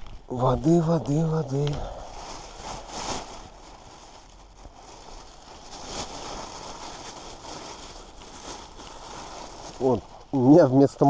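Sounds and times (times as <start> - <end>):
plastic bag rustling: 0.0 - 11.0.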